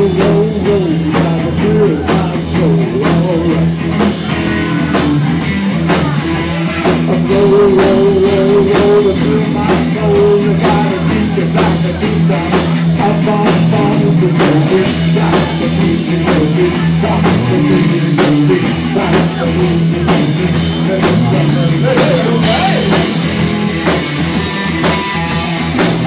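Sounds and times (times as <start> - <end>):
bass guitar: 0.0 - 26.0
drum kit beat: 0.0 - 26.0
electric guitar: 0.0 - 26.0.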